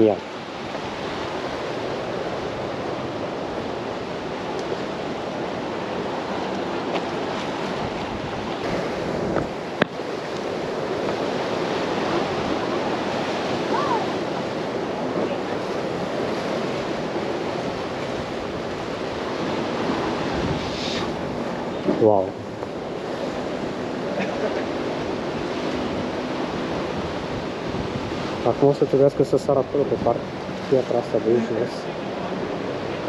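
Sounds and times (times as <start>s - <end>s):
surf washing against rocks: 0.0s - 33.0s.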